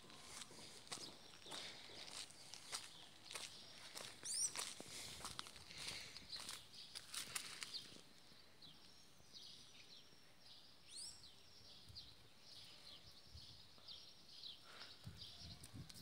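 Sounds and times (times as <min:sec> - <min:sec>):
faint bird chirps: 0:00.0 - 0:04.8, 0:06.3 - 0:16.0.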